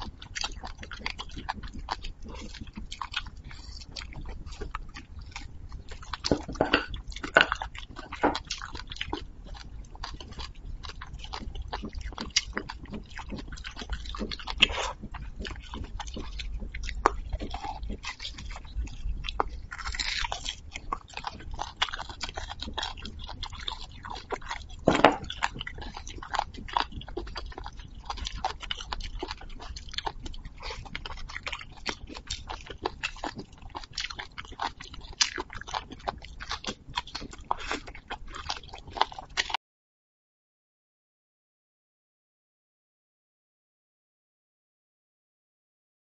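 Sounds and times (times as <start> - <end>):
person chewing: 0.0 - 39.6
sucking marrow from bone: 0.0 - 39.6.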